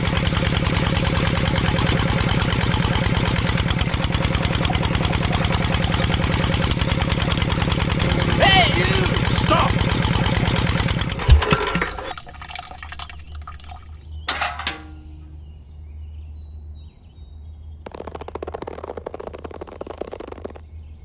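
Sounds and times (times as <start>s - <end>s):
small motor rattling: 0.0s - 14.0s, 17.9s - 20.7s.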